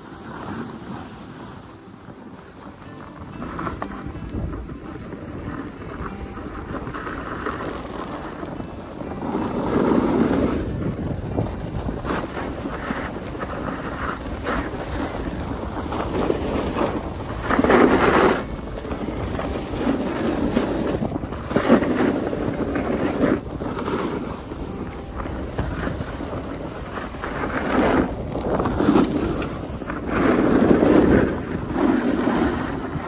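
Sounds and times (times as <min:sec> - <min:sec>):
ski edges scraping over snow: 0:00.0 - 0:33.0
wind buffeting microphone: 0:00.0 - 0:33.0.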